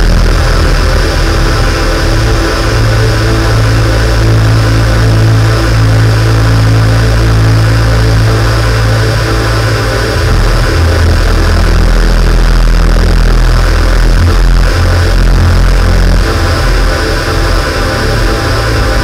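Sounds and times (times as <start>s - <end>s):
synthesizer bass drone: 0.0s - 19.0s.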